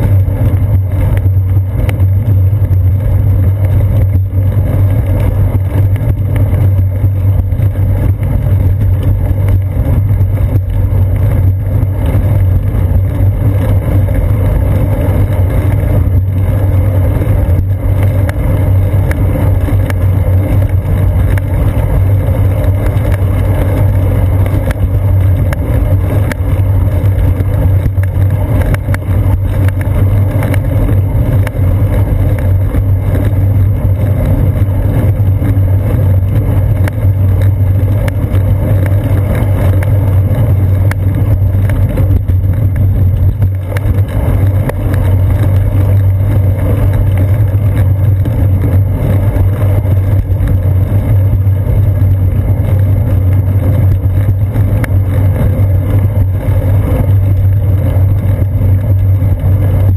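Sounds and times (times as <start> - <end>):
bicycle rolling rumble: 0.0 - 59.9
small ticks from bumps: 0.0 - 59.9
wind on camera: 0.0 - 59.9.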